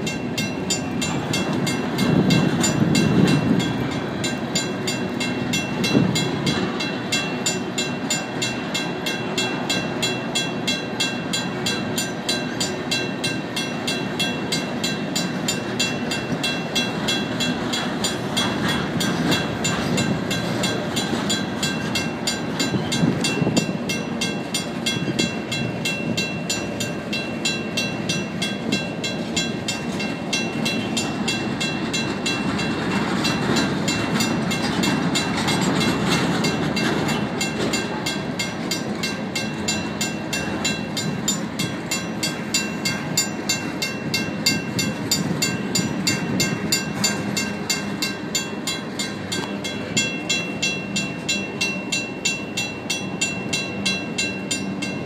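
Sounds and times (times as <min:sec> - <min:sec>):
crossing bell ringing: 0:00.0 - 0:55.0
freight cars rumbling and rattling: 0:00.0 - 0:55.0.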